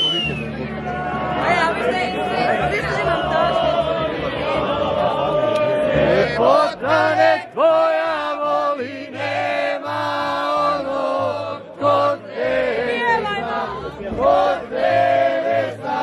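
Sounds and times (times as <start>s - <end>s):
men singing together: 1.5s - 16.0s.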